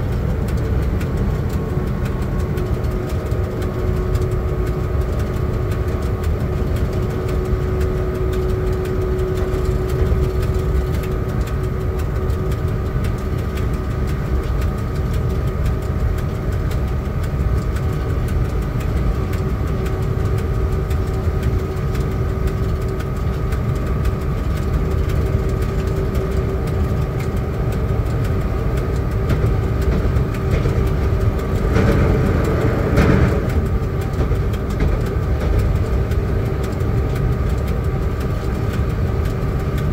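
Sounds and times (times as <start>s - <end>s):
constant tonal hum: 0.0s - 39.9s
locomotive cab rumble: 0.0s - 39.9s.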